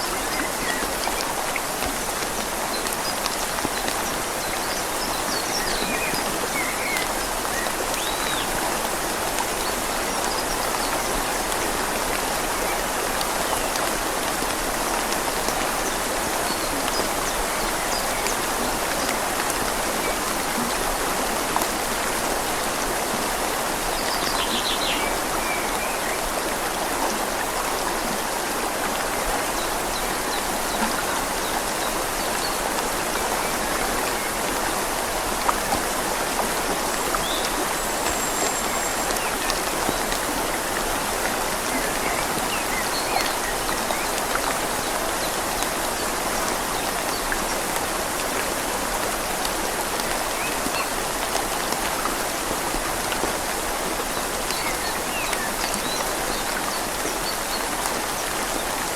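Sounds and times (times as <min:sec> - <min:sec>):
rain falling on leaves: 0:00.0 - 0:58.9
river flowing: 0:00.0 - 0:58.9.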